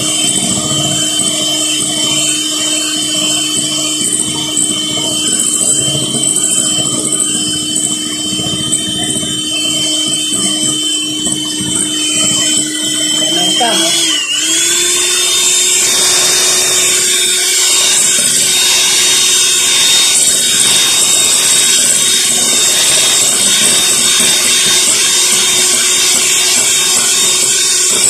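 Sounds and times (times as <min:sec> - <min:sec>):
electric hand mixer whisking batter: 0:00.0 - 0:28.0.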